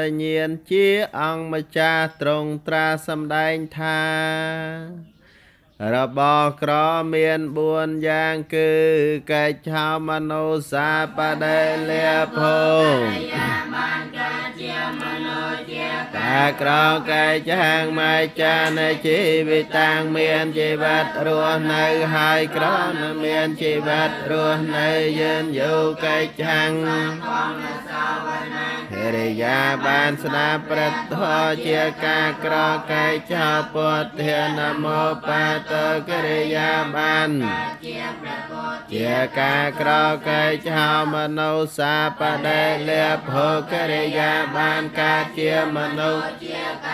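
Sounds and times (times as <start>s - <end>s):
voices chanting: 0.0s - 46.9s.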